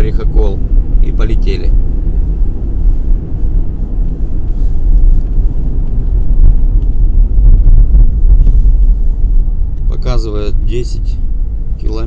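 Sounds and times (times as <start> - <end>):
car engine rumble inside cabin: 0.0 - 12.0
road noise: 0.0 - 12.0.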